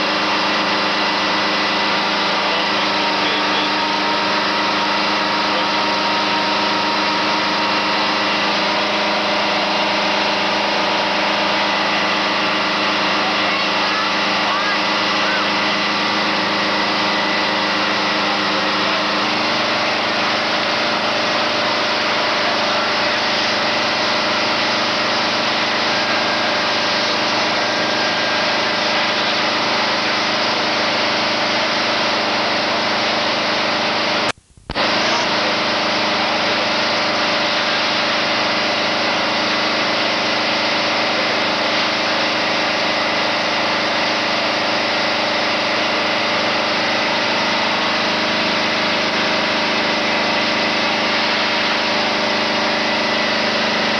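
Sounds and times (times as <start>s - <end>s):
fire engine motor running: 0.0s - 53.9s.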